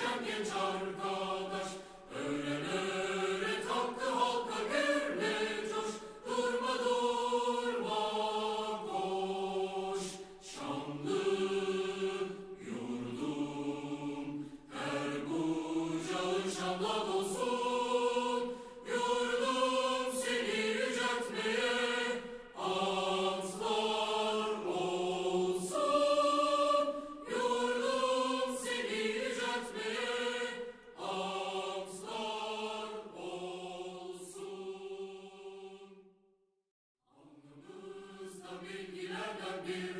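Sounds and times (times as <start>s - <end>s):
choir singing slow song: 0.0s - 36.2s, 37.1s - 39.9s.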